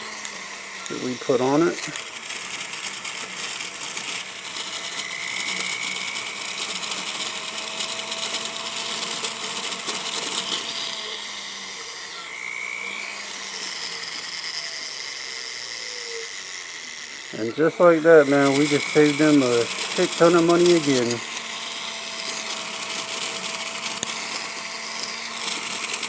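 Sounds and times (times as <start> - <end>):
rotary tool whining: 0.0 - 26.0.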